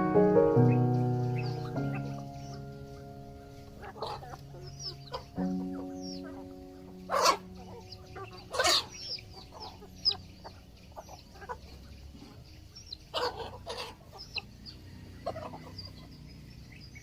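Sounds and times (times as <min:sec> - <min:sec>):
high chirps: 0:00.0 - 0:14.8
chickens clucking: 0:00.0 - 0:17.0.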